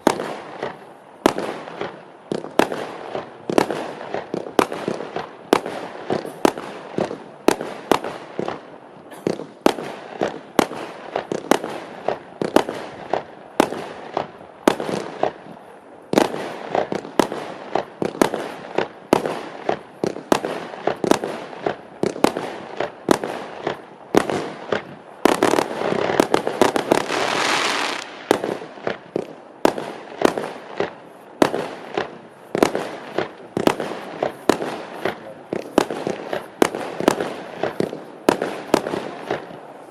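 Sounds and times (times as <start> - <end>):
fireworks sharp bangs: 0.0 - 39.9.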